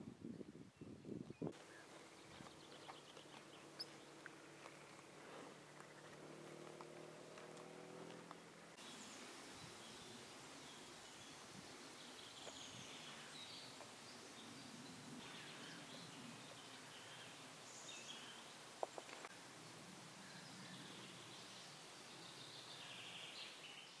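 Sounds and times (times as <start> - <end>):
steady low hiss: 0.0 - 24.0
bird calls and song: 0.2 - 19.3, 20.2 - 24.0.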